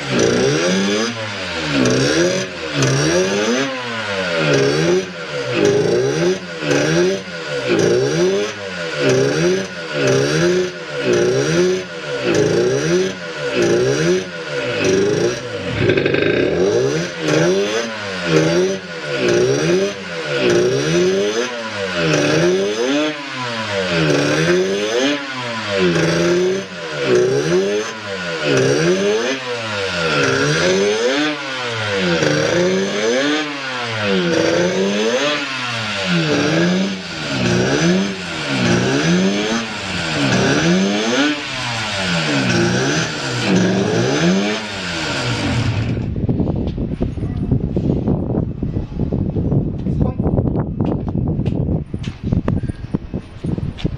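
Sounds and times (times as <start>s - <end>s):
two-stroke engine revving: 0.0s - 49.2s.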